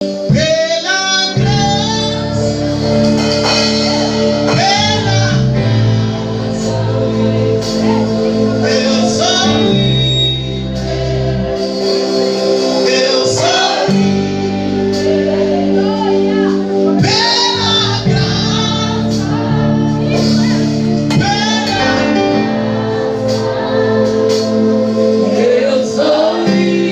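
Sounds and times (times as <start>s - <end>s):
song with singing voice: 0.0s - 26.9s.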